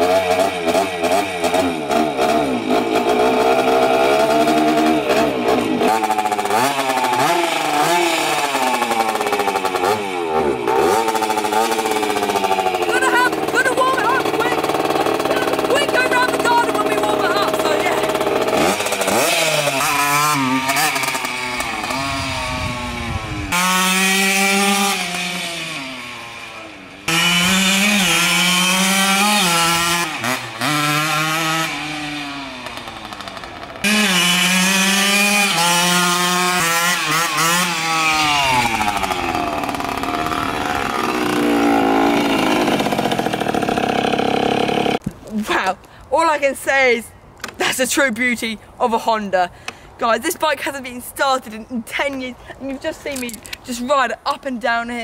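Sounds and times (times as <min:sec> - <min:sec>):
motorcycle engine revving: 0:00.0 - 0:45.1.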